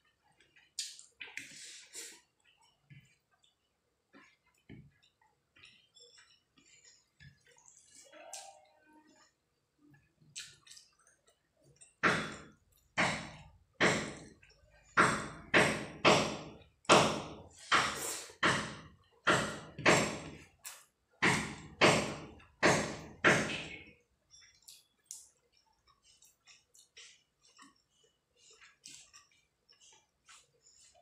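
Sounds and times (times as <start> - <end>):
wet eating squelches: 0.0 - 31.0.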